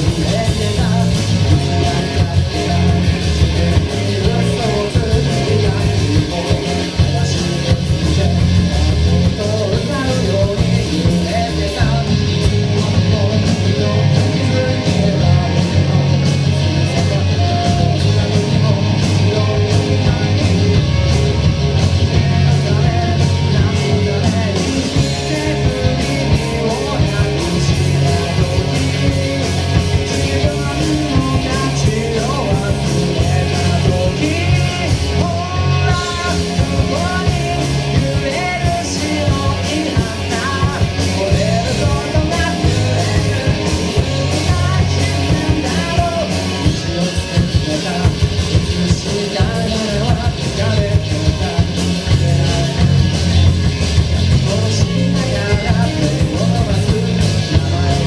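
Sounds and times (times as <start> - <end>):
person singing: 0.0 - 53.4, 54.2 - 58.0
bass guitar: 0.0 - 58.0
drum kit: 0.0 - 58.0
electric guitar: 0.0 - 58.0.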